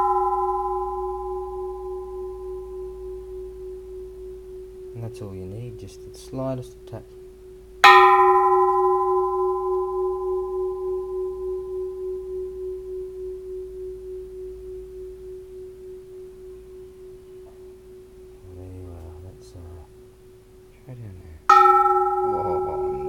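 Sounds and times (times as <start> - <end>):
temple bell ringing: 0.0 - 7.0, 7.7 - 20.1, 21.5 - 23.0.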